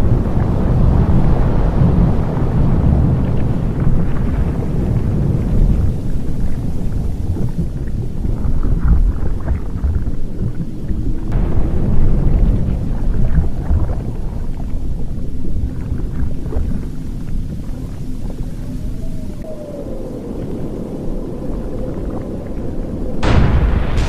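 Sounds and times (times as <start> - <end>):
crackles and pops: 0.0 - 19.5, 21.5 - 24.0
deep continuous rumble: 0.0 - 24.0.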